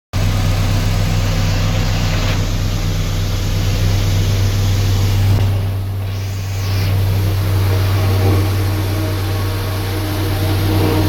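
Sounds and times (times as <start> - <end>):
tractor engine droning: 0.2 - 11.0.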